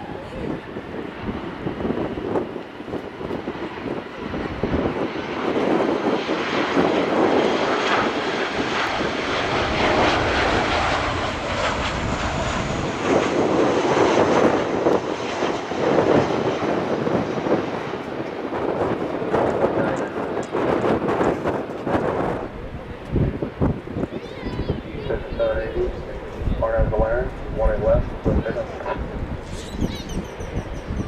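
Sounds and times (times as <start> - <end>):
airliner jet engines passing: 0.0 - 31.0.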